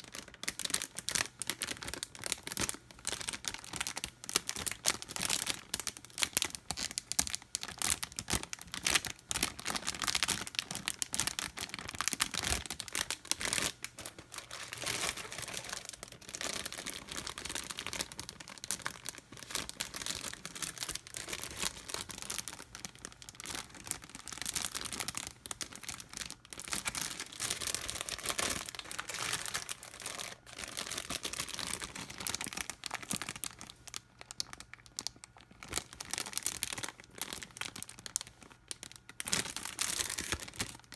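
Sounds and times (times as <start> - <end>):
plastic bags crinkling: 0.0 - 40.9.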